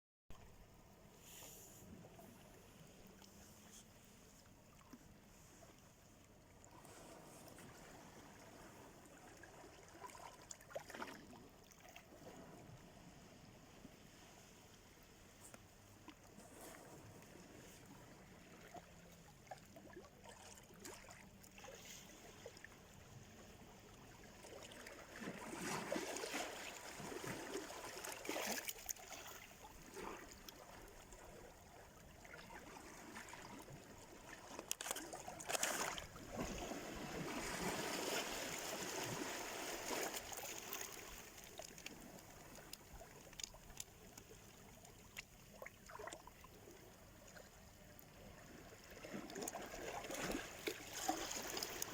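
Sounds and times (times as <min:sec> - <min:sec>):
small waves breaking on shore: 0:00.6 - 0:51.9.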